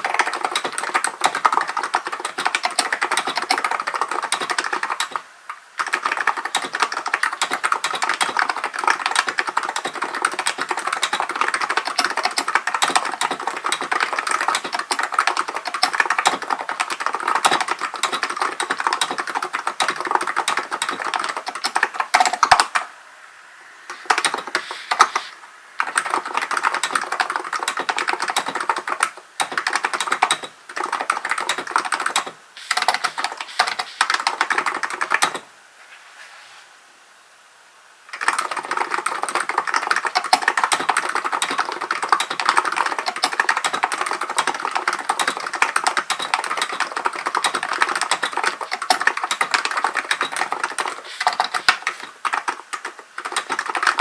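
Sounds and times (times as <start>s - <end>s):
typing on keyboard: 0.0s - 5.2s, 5.8s - 22.9s, 23.9s - 35.4s, 38.1s - 54.0s.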